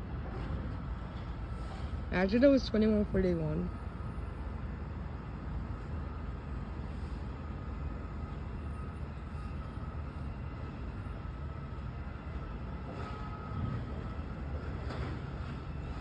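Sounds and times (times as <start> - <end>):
faint high whine: 0.0 - 16.0.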